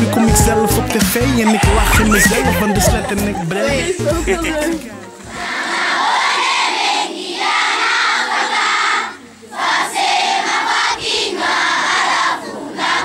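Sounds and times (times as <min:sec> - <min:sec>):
schoolchildren singing in unison: 0:00.0 - 0:13.0.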